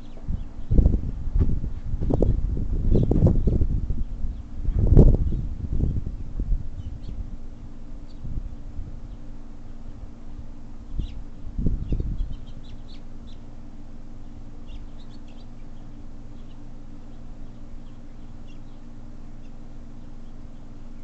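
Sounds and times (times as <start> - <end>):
small birds chirping: 0.0 - 1.1, 1.7 - 21.0
steady low hum: 0.0 - 21.0.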